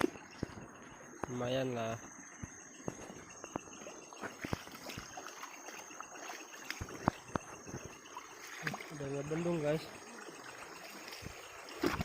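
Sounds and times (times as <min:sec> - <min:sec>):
insects chirring: 0:00.0 - 0:12.0
water drips: 0:00.0 - 0:12.0
water trickling and splashing: 0:00.0 - 0:12.0.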